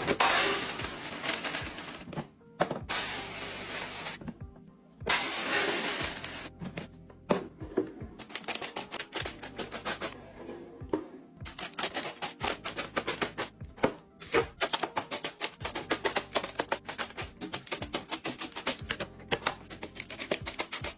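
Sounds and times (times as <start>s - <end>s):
background music: 0.0s - 20.9s.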